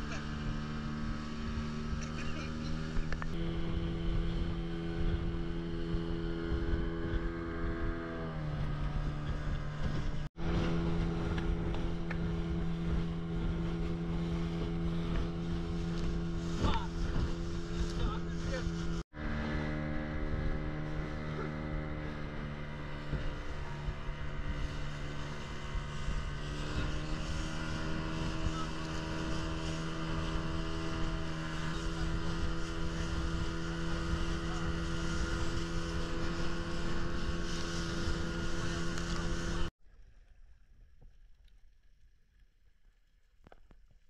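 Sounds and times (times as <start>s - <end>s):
outboard motor running: 0.0s - 41.0s
wind: 0.0s - 44.0s.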